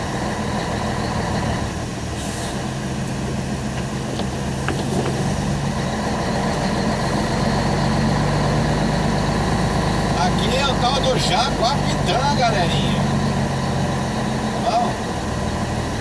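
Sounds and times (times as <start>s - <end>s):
road noise: 0.0s - 16.0s
truck engine hum: 0.0s - 16.0s.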